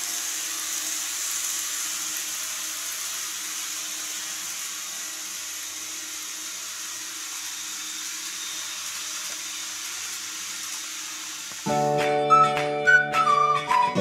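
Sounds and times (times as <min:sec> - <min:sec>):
model train whirring on track: 0:00.0 - 0:13.8.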